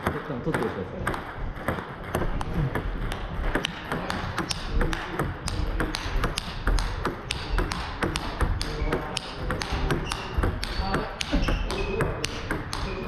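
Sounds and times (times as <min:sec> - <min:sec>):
table tennis ball clicks: 0:00.0 - 0:13.0.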